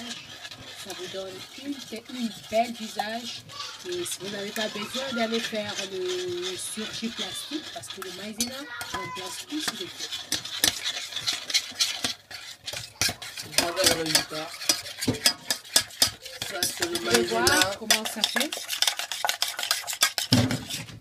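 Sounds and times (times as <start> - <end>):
mixture stirred in metal bowl: 0.0 - 21.0.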